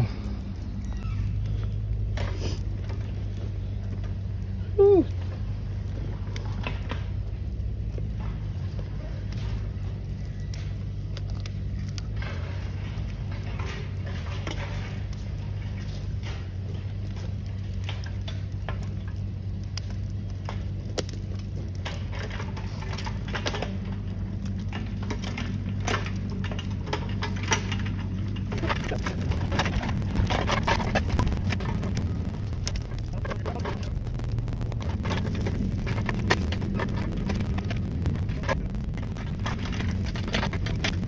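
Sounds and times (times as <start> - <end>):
fire crackling and popping: 0.0 - 41.0
steady low drone: 0.0 - 41.0.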